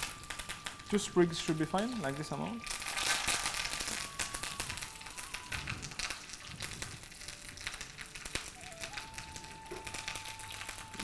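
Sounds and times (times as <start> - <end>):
leaves sizzling in hot oil: 0.0 - 11.0.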